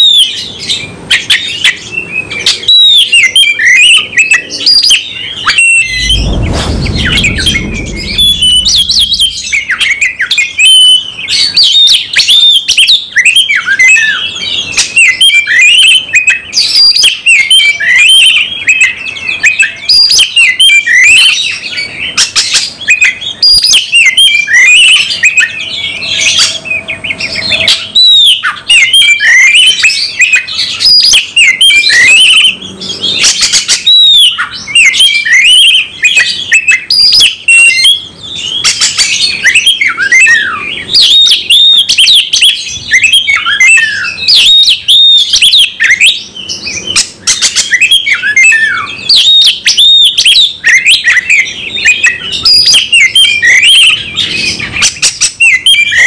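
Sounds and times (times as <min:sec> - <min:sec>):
bird singing whistles and trills: 0:00.0 - 0:56.0.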